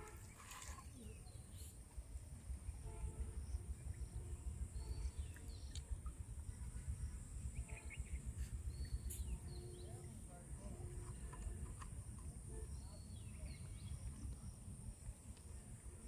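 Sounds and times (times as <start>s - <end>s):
low uneven rumble: 0.0s - 16.0s.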